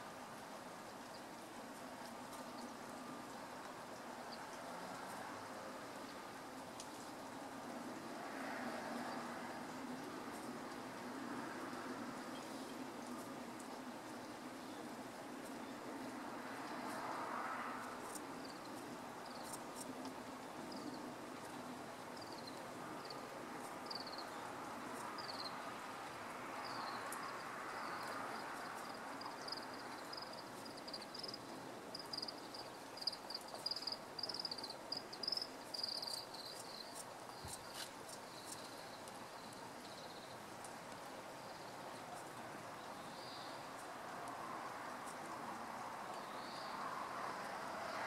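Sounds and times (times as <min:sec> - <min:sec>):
outdoor background noise: 0:00.0 - 0:48.0.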